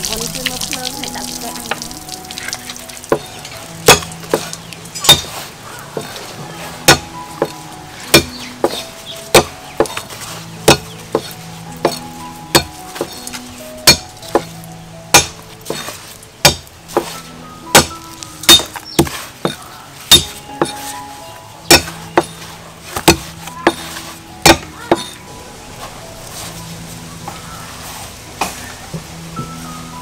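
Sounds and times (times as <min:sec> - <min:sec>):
soft background music: 0:00.0 - 0:30.0.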